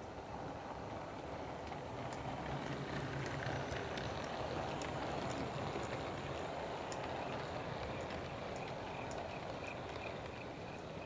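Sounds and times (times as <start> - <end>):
model train rumbling on track: 0.0 - 11.0
wheels clicking over rail joints: 0.0 - 11.0.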